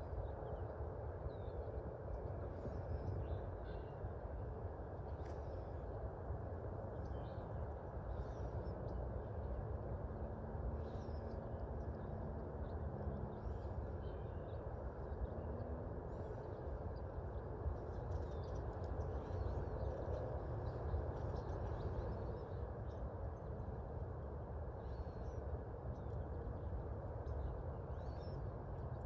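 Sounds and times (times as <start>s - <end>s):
low background rumble: 0.0s - 29.0s
small birds chirping faintly: 0.0s - 29.0s.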